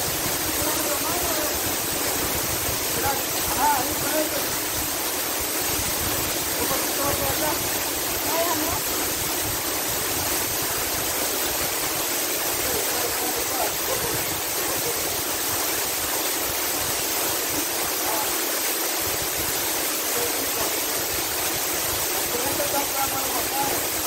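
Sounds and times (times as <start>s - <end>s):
waterfall splashing: 0.0s - 24.0s.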